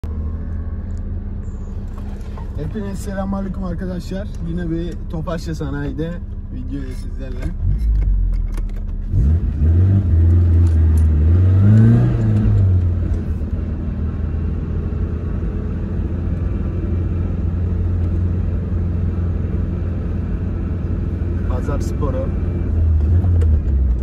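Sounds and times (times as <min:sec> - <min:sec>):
car engine revving: 0:00.1 - 0:24.0.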